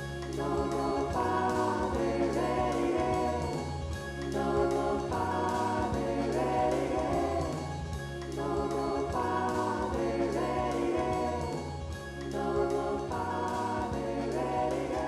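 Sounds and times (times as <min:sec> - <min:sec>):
choir singing held chords: 0:00.0 - 0:15.0
low bass: 0:00.0 - 0:15.0.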